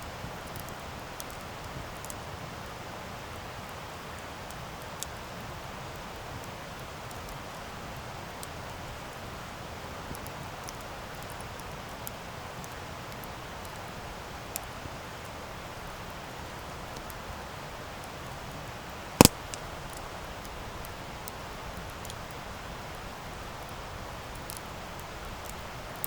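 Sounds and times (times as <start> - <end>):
campfire hissing and crackling: 0.0 - 26.0.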